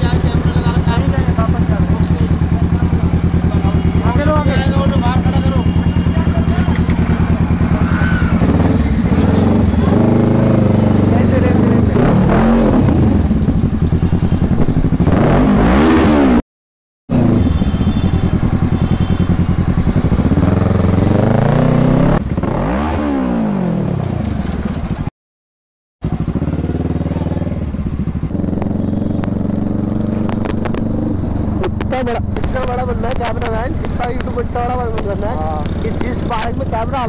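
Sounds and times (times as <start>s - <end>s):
motorcycle engine revving: 0.0s - 16.4s, 17.1s - 25.1s, 26.0s - 37.0s.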